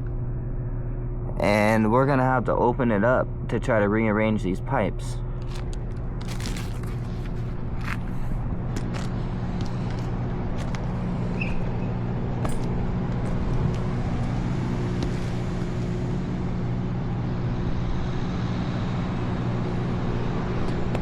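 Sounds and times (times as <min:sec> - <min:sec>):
generator engine droning: 0:00.0 - 0:21.0.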